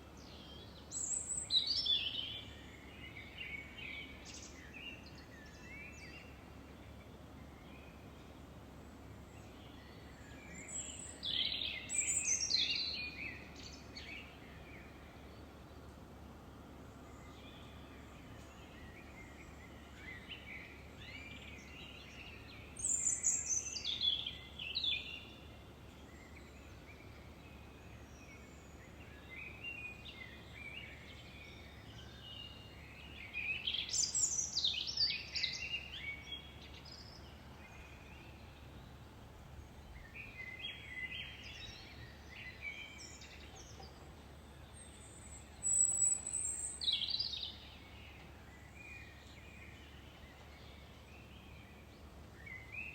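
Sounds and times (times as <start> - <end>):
faint background hiss: 0.0 - 52.9
songbird singing: 0.0 - 52.9.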